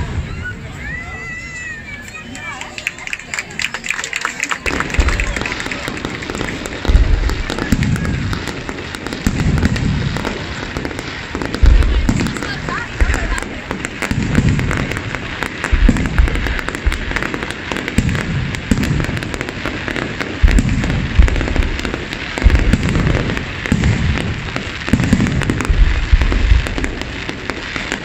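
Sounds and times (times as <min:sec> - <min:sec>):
dense fireworks crackle: 0:00.0 - 0:28.0
firework shells booming: 0:04.6 - 0:28.0.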